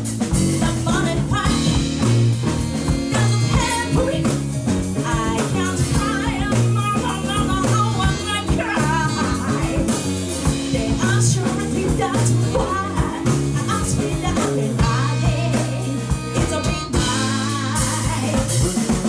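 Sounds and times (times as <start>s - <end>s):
live rock band: 0.0s - 19.0s
person singing: 0.4s - 19.0s.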